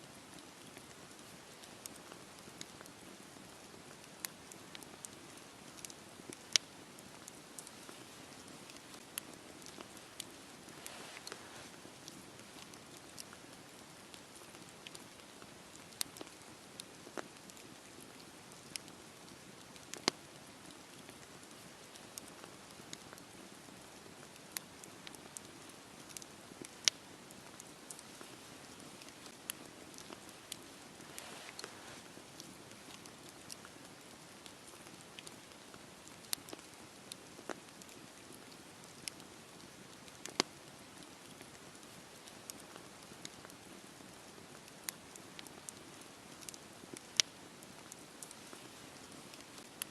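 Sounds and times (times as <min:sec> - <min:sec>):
burning wood crackling and popping: 0:00.1 - 0:49.9
campfire hissing: 0:00.1 - 0:49.9.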